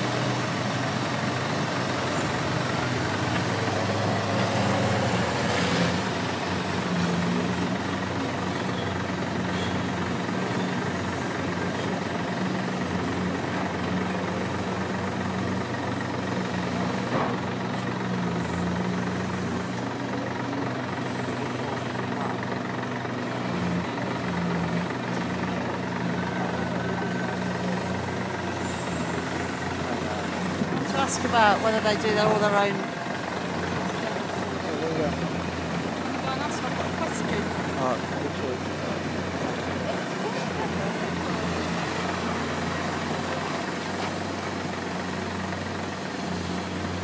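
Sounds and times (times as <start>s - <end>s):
mining shovel engines droning: 0.0s - 47.0s.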